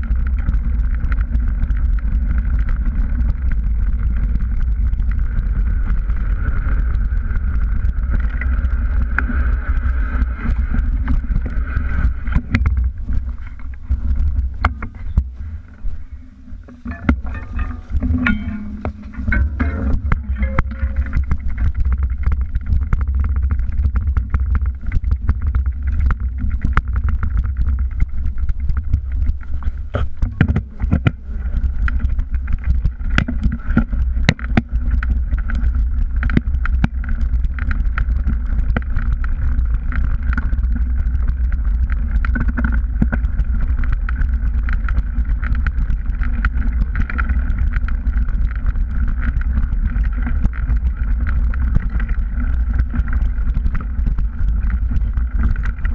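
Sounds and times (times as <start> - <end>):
bike rattling over stones: 0.0 - 55.9
tyre and wind rumble: 0.0 - 55.9.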